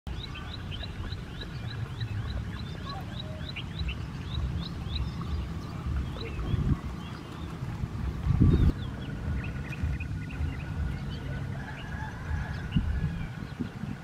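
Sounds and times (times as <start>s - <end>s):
small birds chirping: 0.1s - 14.0s
steady low rumble: 0.1s - 14.0s.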